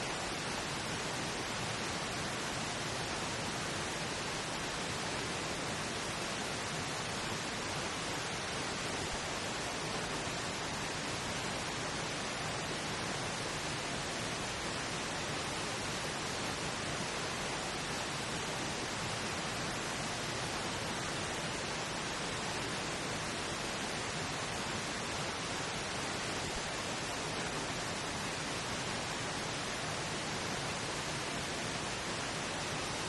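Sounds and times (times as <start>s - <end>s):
pink noise hiss: 0.0s - 33.0s.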